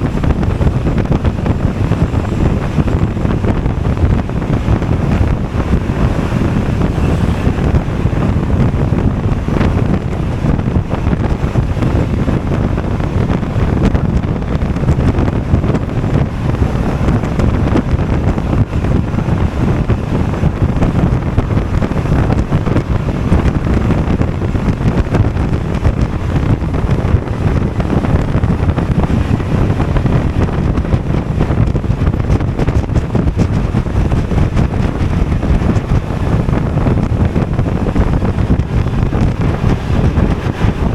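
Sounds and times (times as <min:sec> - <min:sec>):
scooter road and engine noise: 0:00.0 - 0:40.9
wind buffeting microphone: 0:00.0 - 0:40.9.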